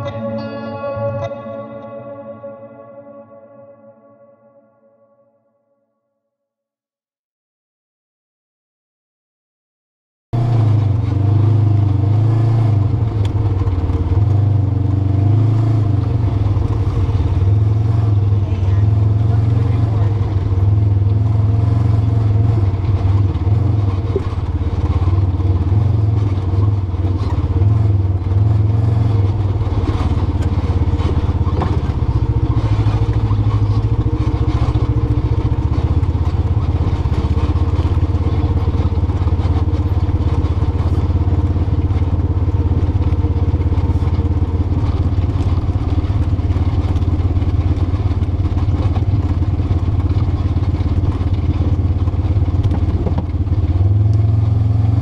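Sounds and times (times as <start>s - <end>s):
atv engine running: 10.4s - 55.0s
clatter of vehicle bouncing: 10.7s - 55.0s.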